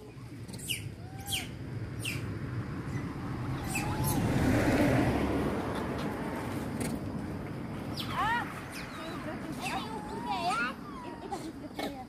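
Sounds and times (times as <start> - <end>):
vehicle passing on road: 0.0 - 11.7.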